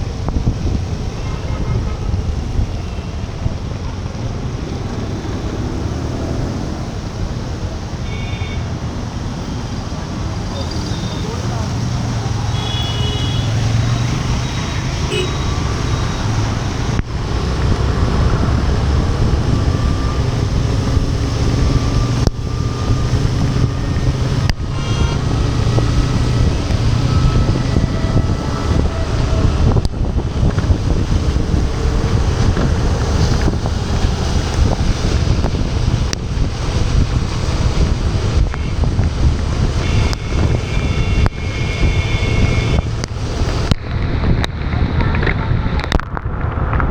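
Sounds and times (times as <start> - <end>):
low rumble of riding in traffic: 0.0 - 46.9
wind buffeting microphone: 0.0 - 46.9.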